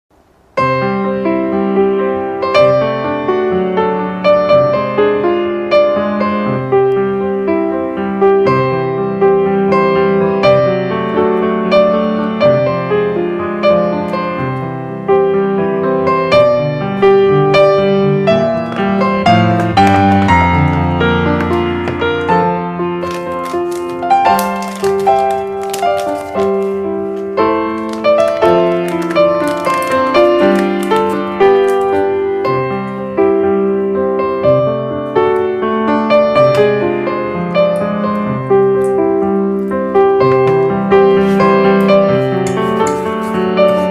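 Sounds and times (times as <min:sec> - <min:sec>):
gentle piano melody: 0:00.4 - 0:43.9.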